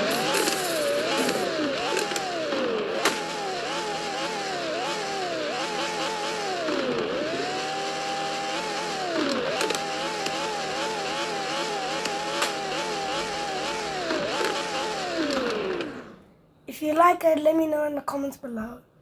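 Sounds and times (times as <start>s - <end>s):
sports car engine revving: 0.0s - 16.4s.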